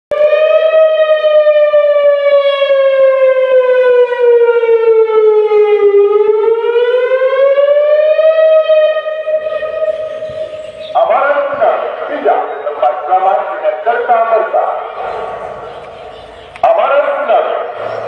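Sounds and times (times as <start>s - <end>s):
warning siren wailing: 0.1s - 18.0s.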